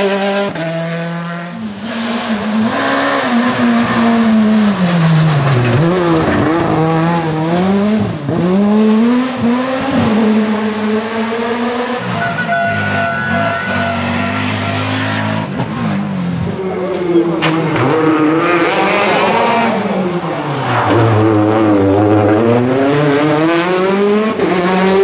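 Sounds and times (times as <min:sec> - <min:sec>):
rally car engine revving hard: 0:00.0 - 0:12.2, 0:12.8 - 0:25.0.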